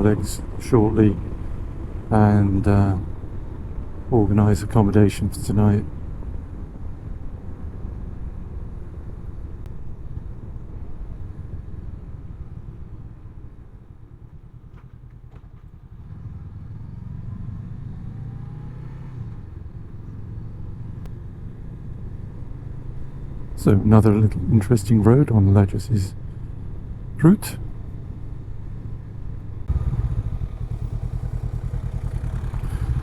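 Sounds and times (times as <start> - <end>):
motorcycle engine running: 0.0 - 5.0, 5.7 - 24.5, 26.2 - 33.0
road and wind rumble: 0.0 - 33.0.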